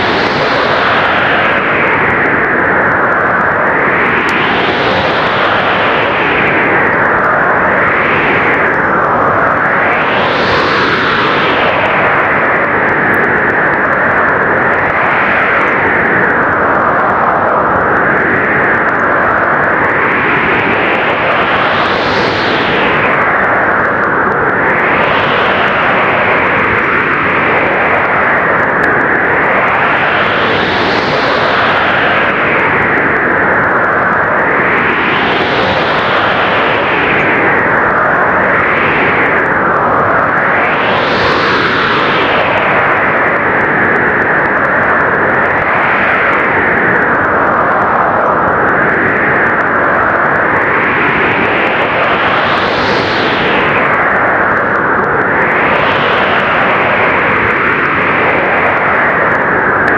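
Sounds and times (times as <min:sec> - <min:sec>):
blizzard wind roaring: 0:00.0 - 0:59.9.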